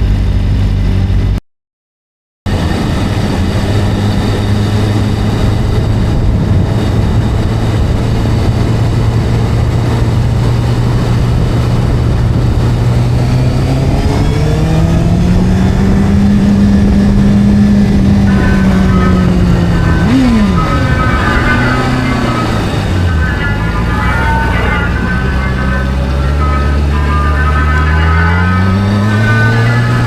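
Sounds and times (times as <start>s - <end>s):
motorcycle engine accelerating: 0.0s - 1.4s, 2.5s - 30.0s.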